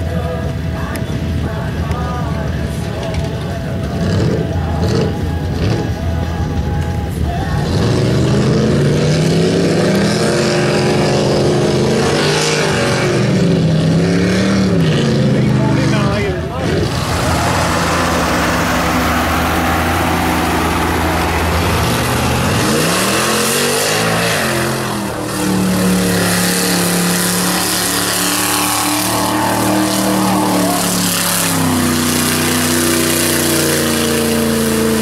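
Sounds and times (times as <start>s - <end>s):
truck engine revving hard: 3.8s - 6.6s, 7.4s - 35.0s.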